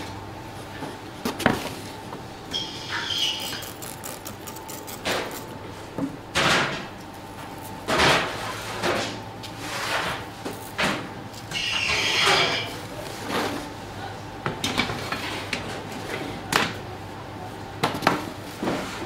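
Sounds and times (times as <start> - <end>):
machinery hum: 0.0 - 19.0.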